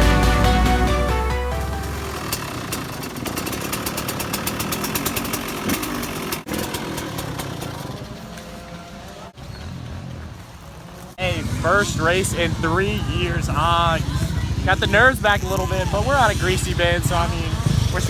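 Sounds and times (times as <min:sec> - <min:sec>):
motocross motorcycle engine running: 0:01.5 - 0:18.0.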